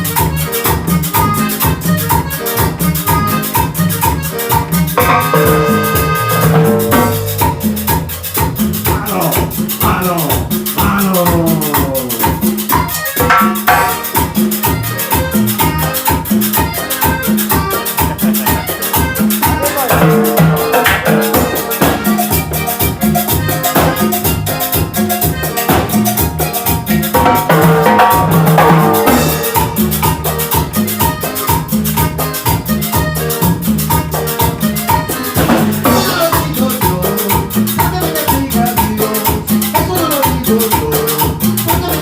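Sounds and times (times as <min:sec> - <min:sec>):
salsa band instrumental: 0:00.0 - 0:42.0.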